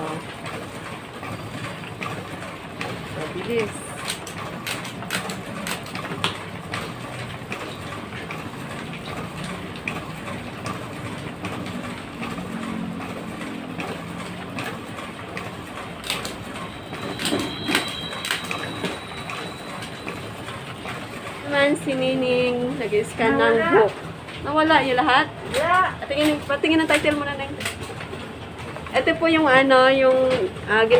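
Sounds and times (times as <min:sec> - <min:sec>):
photocopier running: 0:00.0 - 0:30.9.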